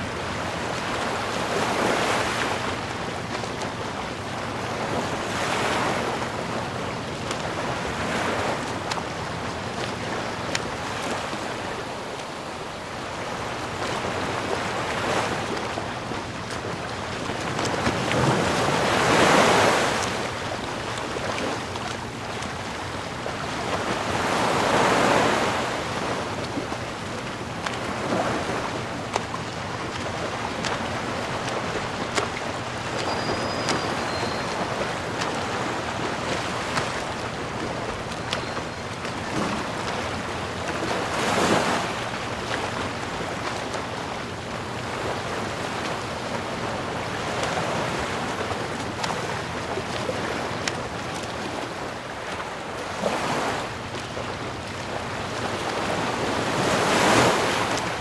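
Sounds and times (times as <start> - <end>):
sea waves washing ashore: 0.0 - 58.0
steady surf noise: 0.0 - 58.0.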